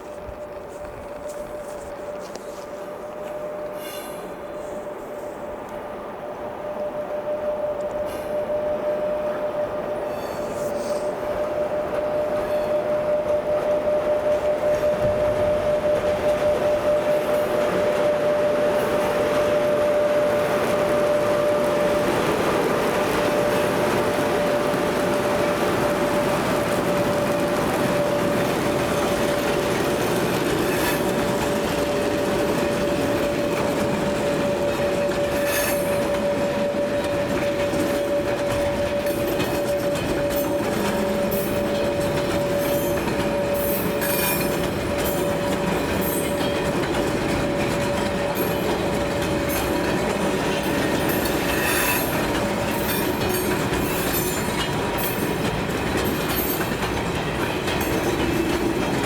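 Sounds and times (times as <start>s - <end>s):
train wagons rumbling on rails: 0.0s - 59.0s
wheels squealing: 9.9s - 59.0s.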